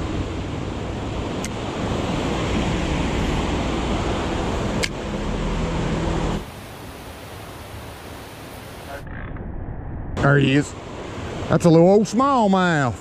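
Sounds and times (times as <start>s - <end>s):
mountain creek rushing: 0.0s - 9.0s, 10.2s - 13.0s.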